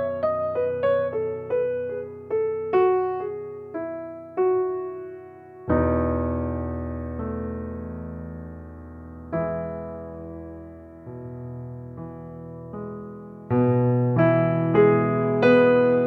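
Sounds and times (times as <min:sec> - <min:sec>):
gentle solo piano melody: 0:00.0 - 0:16.0.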